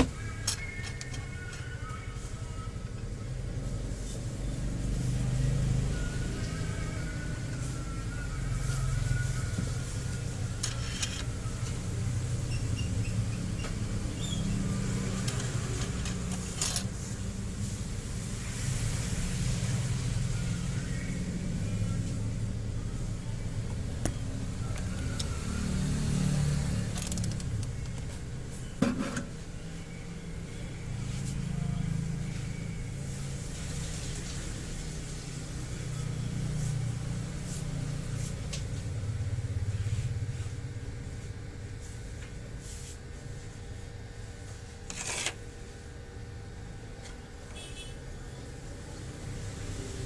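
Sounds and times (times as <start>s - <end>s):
road traffic rumble: 0.0s - 50.0s.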